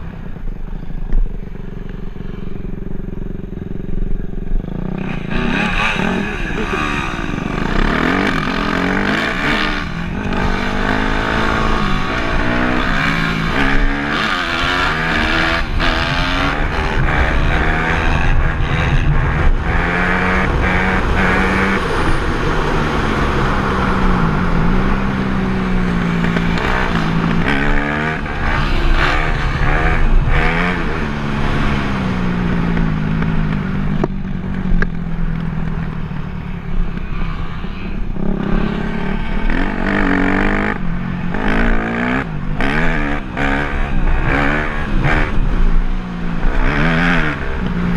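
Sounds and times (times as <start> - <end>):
dirt bike engine revving: 2.0 - 34.0, 36.9 - 47.9.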